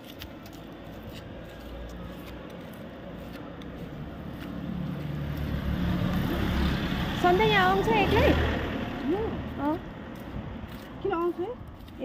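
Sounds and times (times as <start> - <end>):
soft footsteps on road: 0.0 - 12.0
vehicle engine rumble: 0.0 - 12.0.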